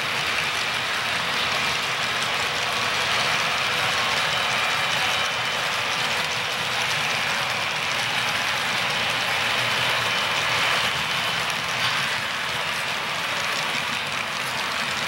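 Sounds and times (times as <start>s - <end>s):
model train wheels on rails: 0.0s - 15.0s.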